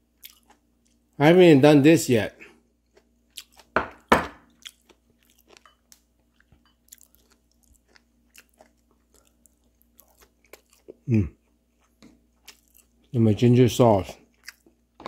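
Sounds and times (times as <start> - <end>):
person chewing crunchy food: 0.0 - 1.1, 2.4 - 13.2, 14.0 - 15.0
faint steady hum: 0.0 - 15.0.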